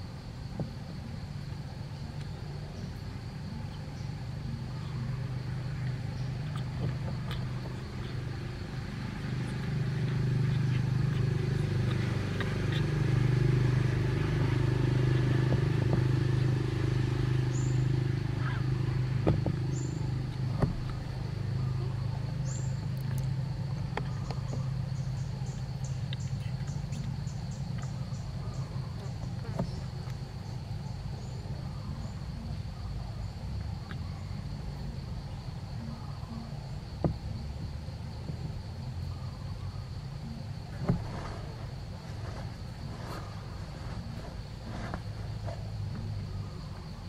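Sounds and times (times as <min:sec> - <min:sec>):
low motor hum: 0:00.0 - 0:47.0.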